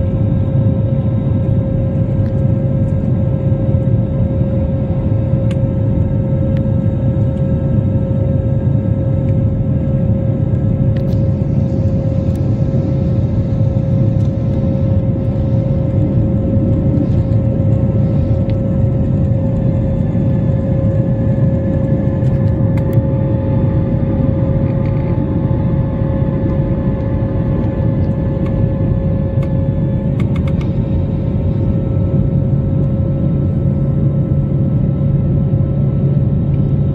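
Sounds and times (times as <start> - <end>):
jet engines rumbling and whining: 0.0 - 36.9.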